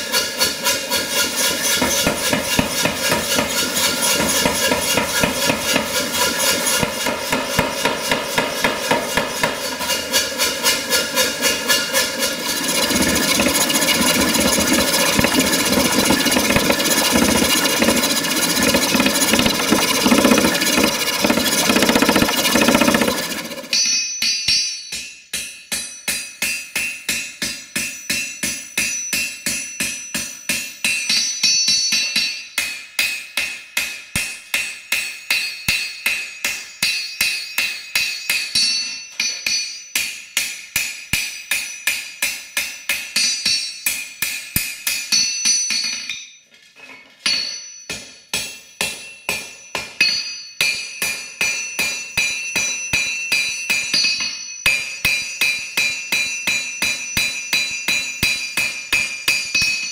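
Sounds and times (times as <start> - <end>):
hammer blows on ringing anvil: 0.0 - 46.4, 47.3 - 59.9.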